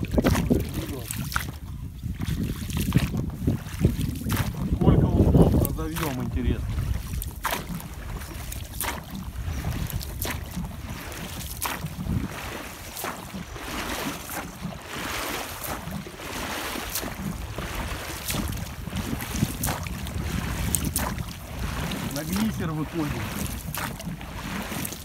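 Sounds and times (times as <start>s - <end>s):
oars splashing: 0.0s - 25.0s
wind rumble on microphone: 0.0s - 25.0s.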